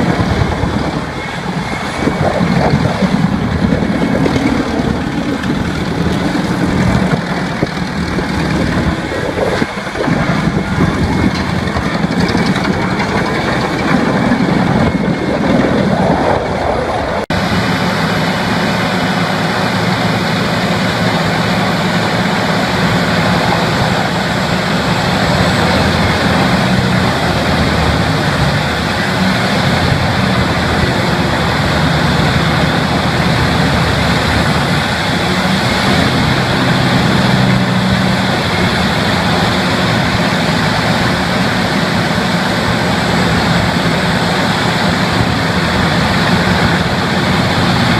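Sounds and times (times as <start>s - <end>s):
wood chipper grinding: 0.0s - 16.8s, 17.4s - 47.9s
wood chipper engine drone: 0.0s - 47.9s.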